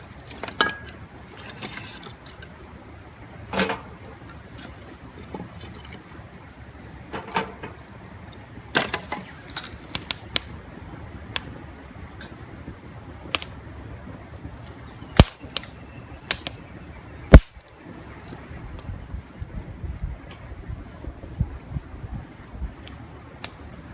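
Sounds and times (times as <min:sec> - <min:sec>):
campfire crackling and popping: 0:00.0 - 0:23.9
low steady background noise: 0:00.0 - 0:23.9.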